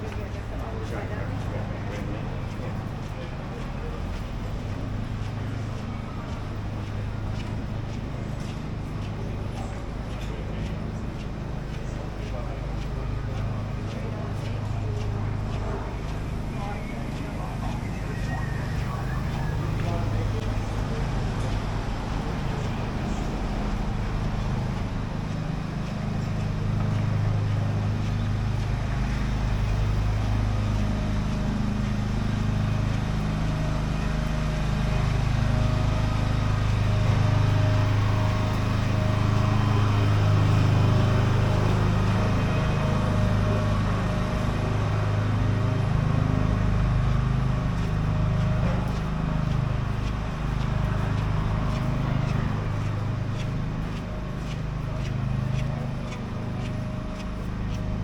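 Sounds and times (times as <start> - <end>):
street traffic: 0.0 - 58.0
vehicle engine humming nearby: 0.0 - 58.0.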